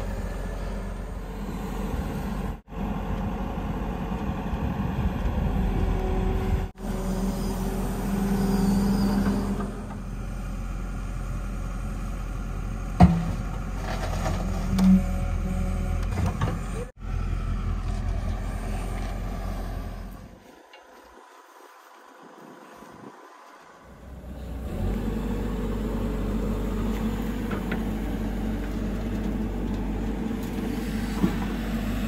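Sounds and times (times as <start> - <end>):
excavator diesel engine under load: 0.0 - 20.8, 23.7 - 32.0.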